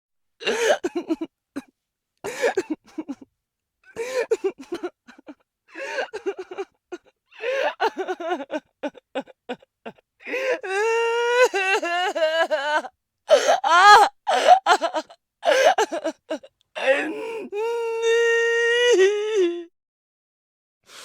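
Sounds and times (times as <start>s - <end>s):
person crying and sobbing: 0.4s - 1.7s, 2.3s - 3.3s, 3.9s - 19.7s.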